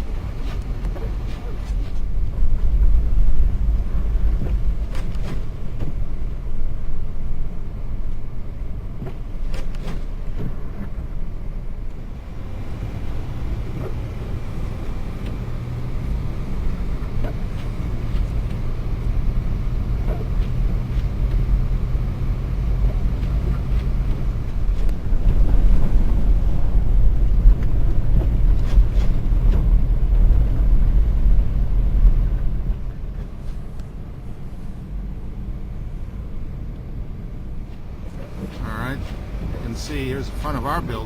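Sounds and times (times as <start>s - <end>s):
car driving on snowy road: 0.0s - 41.0s.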